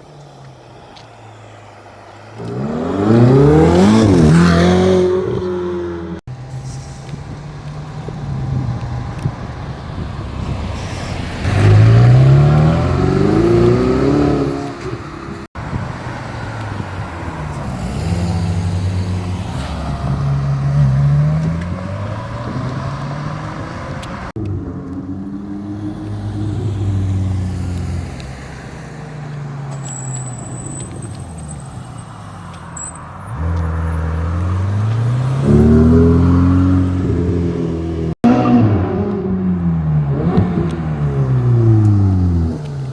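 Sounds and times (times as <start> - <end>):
sports car engines revving: 0.0 - 42.9.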